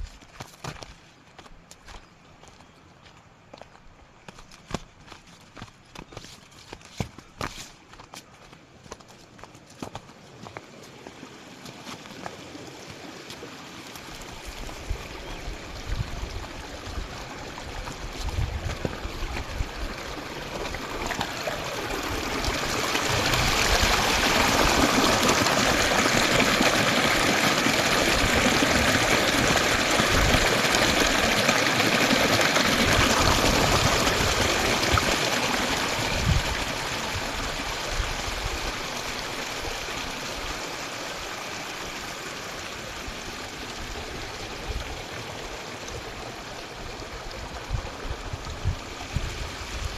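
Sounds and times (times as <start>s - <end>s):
stream water rushing: 8.8s - 49.9s.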